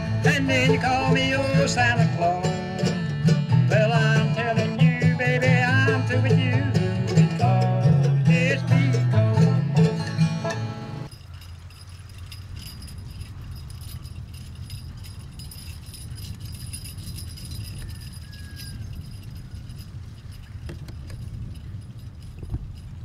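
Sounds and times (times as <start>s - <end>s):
harness chains jingling: 0.0s - 10.3s, 11.0s - 23.0s
horse-drawn implement rattling: 0.0s - 23.0s.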